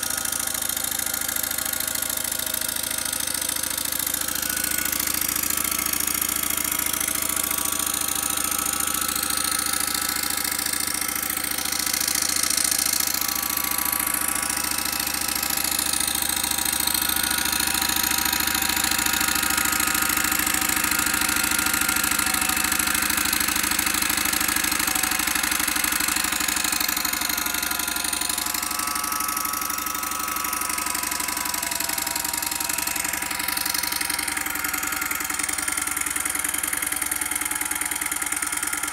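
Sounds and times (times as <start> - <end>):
steam engine running: 0.0 - 38.9.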